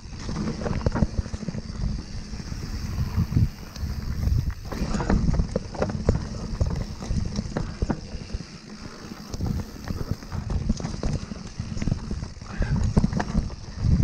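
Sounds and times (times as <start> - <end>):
bike rattling over rocks: 0.0 - 14.0
bike tyres rumbling over dirt: 0.0 - 14.0
wind noise on microphone: 0.0 - 14.0.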